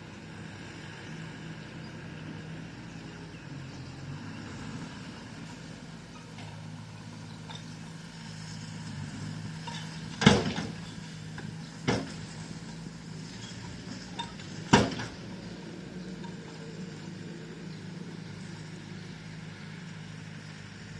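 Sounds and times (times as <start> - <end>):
bulldozer engine running: 0.0 - 20.9.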